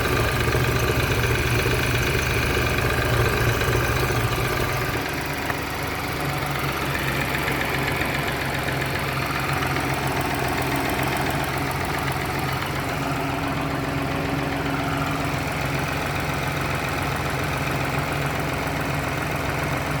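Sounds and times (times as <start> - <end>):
car engine idling: 0.0 - 20.0
fine regular engine ticking: 0.0 - 20.0.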